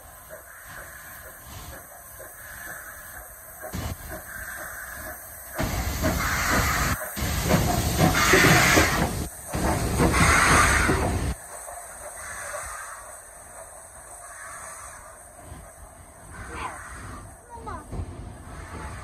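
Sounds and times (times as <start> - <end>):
loud hissing steam: 0.0 - 19.0
steam locomotive rolling past: 0.0 - 19.0.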